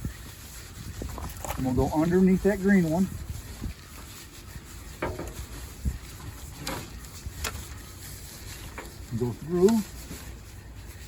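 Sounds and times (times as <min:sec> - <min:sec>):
tent pole rustling through fabric: 0:00.0 - 0:11.0.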